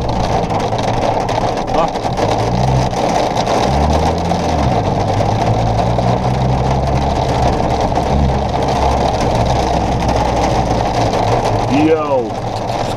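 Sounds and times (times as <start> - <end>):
car engine running: 0.0 - 12.9
road rushing noise: 0.0 - 12.9.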